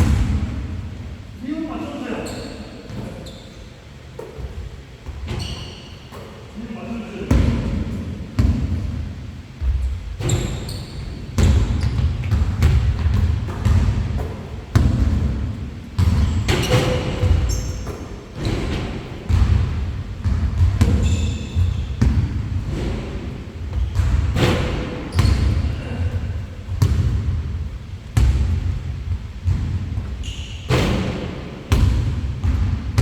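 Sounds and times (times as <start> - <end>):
basketballs bouncing on gym floor: 0.0 - 1.2, 4.0 - 6.6, 7.2 - 33.0.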